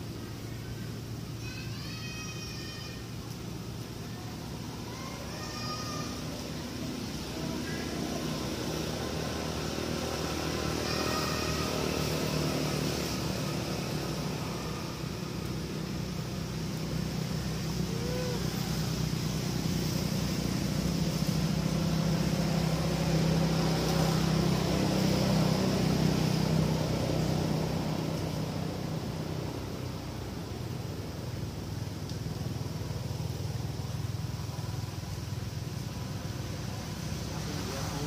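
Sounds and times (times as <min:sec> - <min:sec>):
vehicle engine hum: 0:00.0 - 0:38.0.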